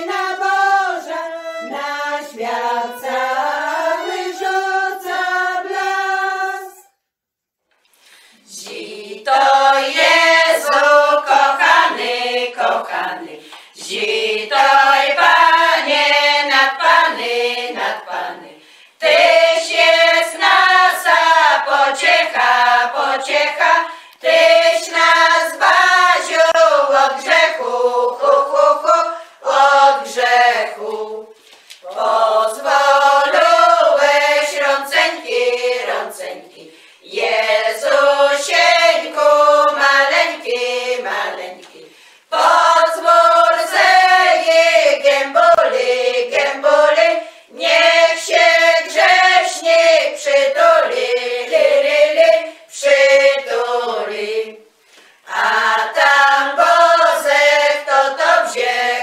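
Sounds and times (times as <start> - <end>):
women singing a cappella: 0.0 - 7.0, 8.3 - 59.0.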